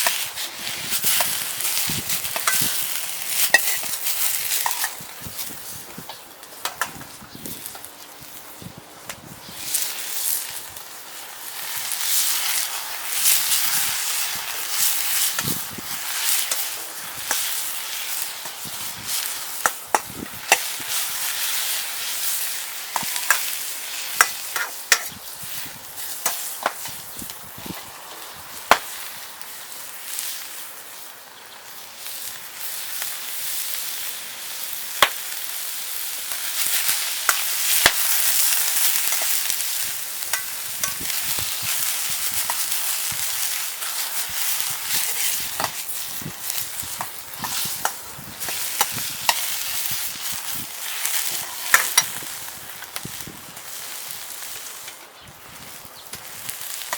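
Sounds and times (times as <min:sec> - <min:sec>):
food sizzling in a wok: 0:00.0 - 0:56.9.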